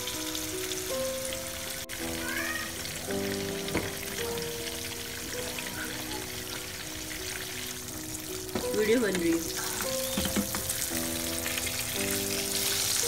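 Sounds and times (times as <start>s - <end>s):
background music: 0.0s - 13.0s
fish sizzling in oil: 0.0s - 13.0s.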